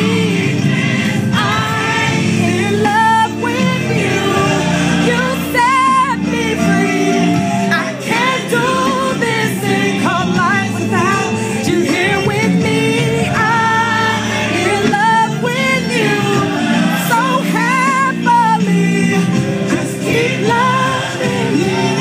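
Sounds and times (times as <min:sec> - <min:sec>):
gospel singing with instrumental backing: 0:00.0 - 0:22.0.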